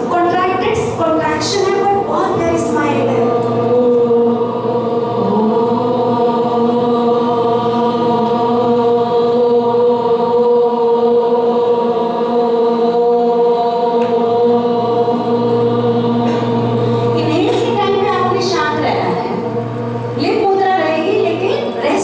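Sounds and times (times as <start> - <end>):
voices chanting in unison: 2.0 - 20.5.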